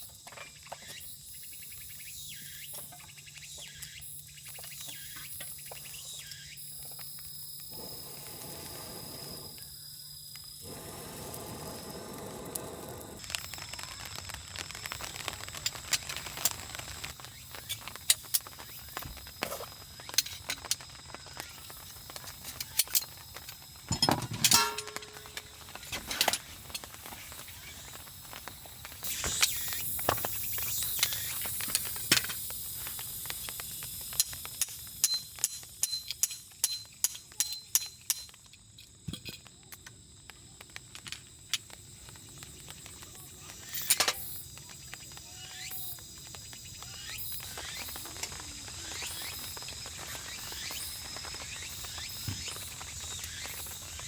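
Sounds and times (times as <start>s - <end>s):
wood fire crackling and popping: 0.0s - 54.0s
fire hissing: 3.6s - 38.3s, 39.5s - 54.0s.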